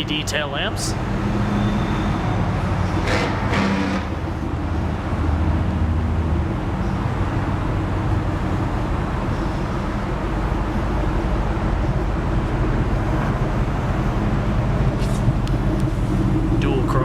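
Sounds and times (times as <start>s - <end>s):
low vehicle rumble: 0.0s - 17.0s.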